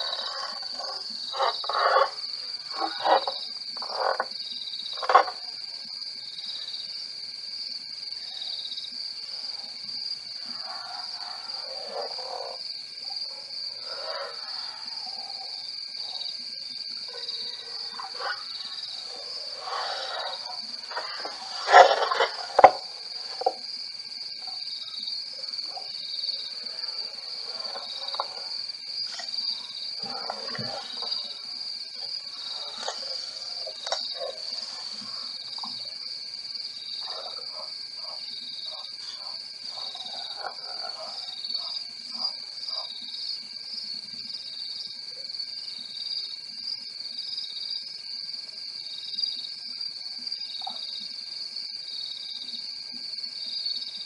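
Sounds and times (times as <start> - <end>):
night insects trilling: 0.0 - 54.0.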